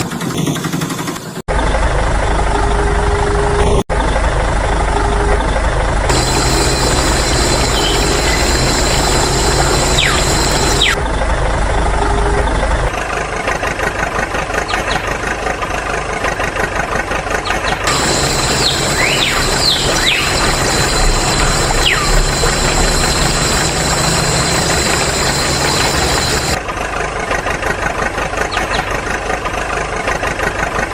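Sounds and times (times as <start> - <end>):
engine idling with knocking beat: 5.7 - 30.9.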